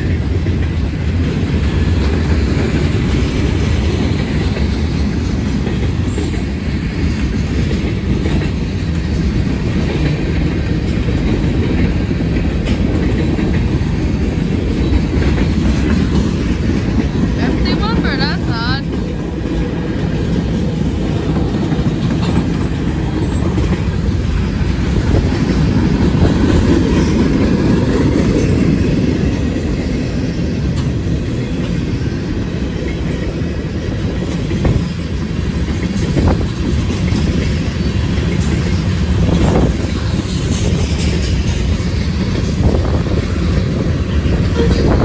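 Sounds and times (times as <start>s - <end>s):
wheels clacking over rail joints: 0.0s - 17.4s, 18.9s - 45.0s
train wheels rumbling on rails: 0.0s - 45.0s.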